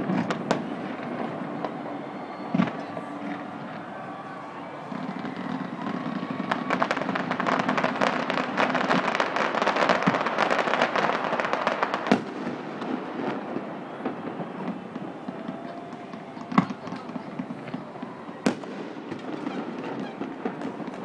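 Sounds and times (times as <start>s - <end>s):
firework bang: 0.0s - 21.0s
fireworks crackling: 0.0s - 21.0s.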